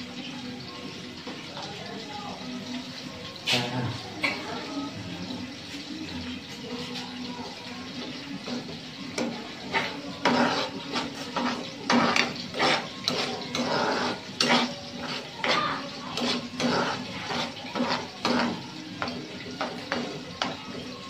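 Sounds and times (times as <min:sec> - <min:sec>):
metal spoon scraping a pan: 0:03.3 - 0:21.0.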